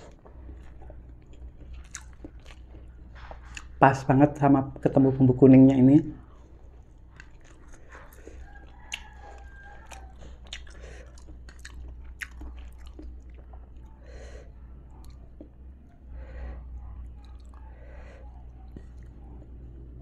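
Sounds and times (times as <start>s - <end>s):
crunchy chewing: 0.0s - 3.8s, 6.2s - 20.0s.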